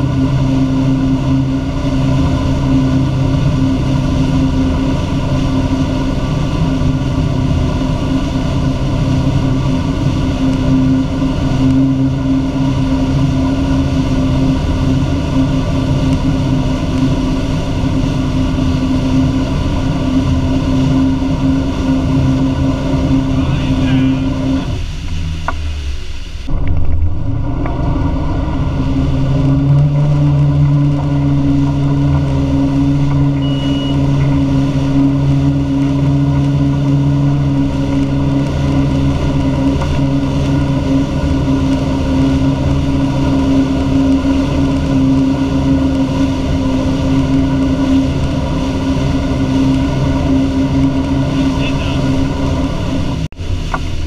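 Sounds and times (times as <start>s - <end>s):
boat engine running: 0.0s - 54.0s
wake water rushing: 0.0s - 54.0s.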